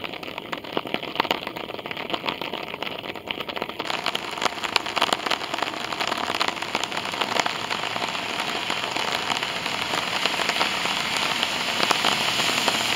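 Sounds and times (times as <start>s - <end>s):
rain falling on hard ground: 0.0s - 12.9s
sharp ticks of raindrops: 0.0s - 12.9s.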